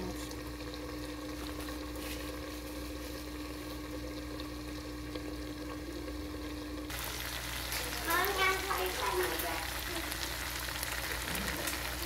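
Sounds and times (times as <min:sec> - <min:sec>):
pan sizzling: 0:00.0 - 0:12.0.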